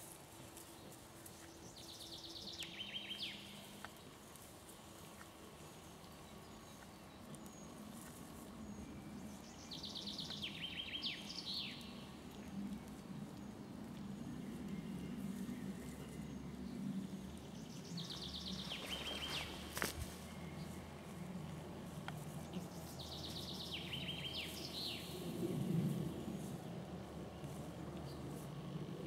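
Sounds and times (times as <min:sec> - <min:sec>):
low steady background rumble: 0:00.0 - 0:29.0
songbird singing: 0:00.0 - 0:29.0.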